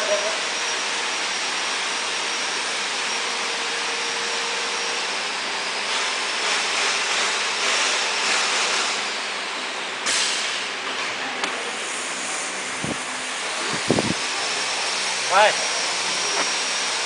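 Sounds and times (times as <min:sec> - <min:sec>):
factory hall rushing noise: 0:01.9 - 0:17.0.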